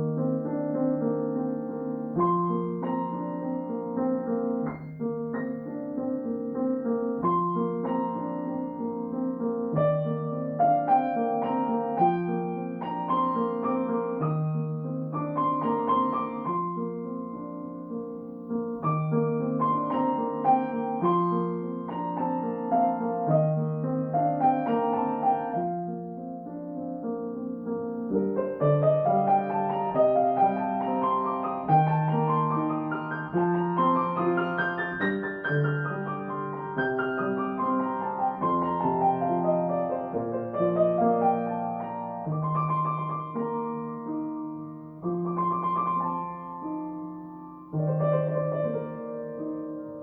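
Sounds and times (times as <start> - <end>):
solo piano piece: 0.0 - 50.0.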